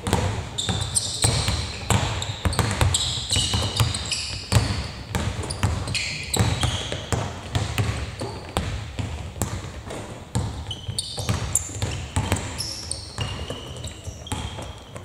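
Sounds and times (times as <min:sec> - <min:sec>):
basketballs bouncing on hardwood: 0:00.0 - 0:15.0
shoes squeaking on floor: 0:00.0 - 0:15.0.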